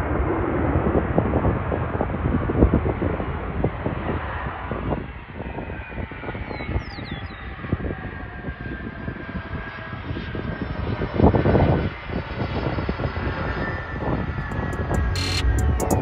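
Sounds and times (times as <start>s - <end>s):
jet engines rushing and whining: 0.0s - 16.0s.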